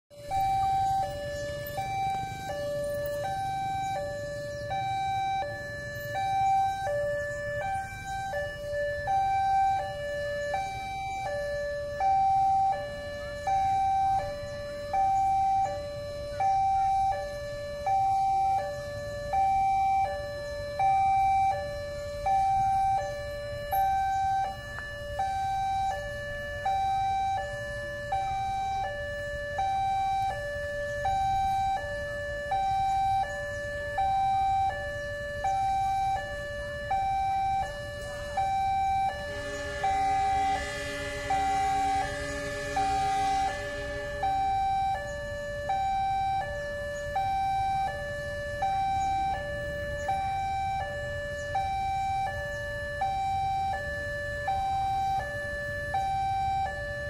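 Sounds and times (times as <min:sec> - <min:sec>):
idling traffic hum: 0:00.1 - 0:57.0
level crossing two-tone alarm: 0:00.1 - 0:57.0.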